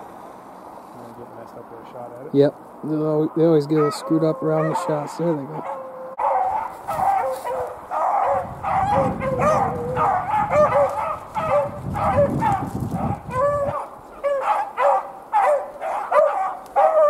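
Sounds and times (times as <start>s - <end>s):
dogs baying: 3.2s - 17.0s.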